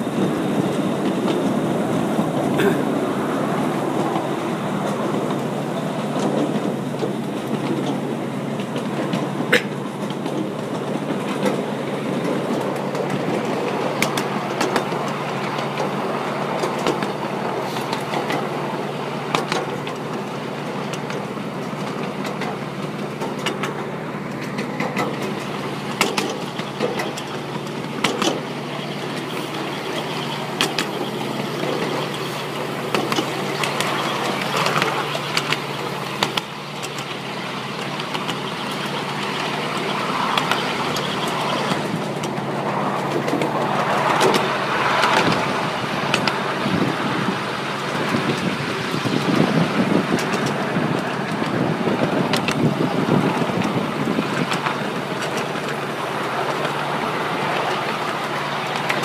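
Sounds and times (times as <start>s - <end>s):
train wheels rumbling on rails: 0.0s - 59.0s
wheels clicking and clacking: 0.0s - 59.0s.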